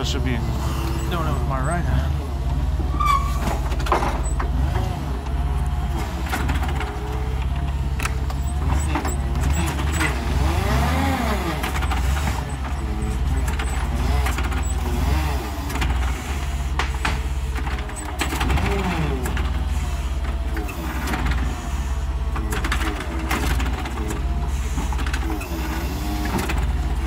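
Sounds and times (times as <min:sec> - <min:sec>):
forklift engine drone: 0:00.0 - 0:27.0
knocks and rattles: 0:03.2 - 0:10.6, 0:11.4 - 0:21.6, 0:22.3 - 0:27.0.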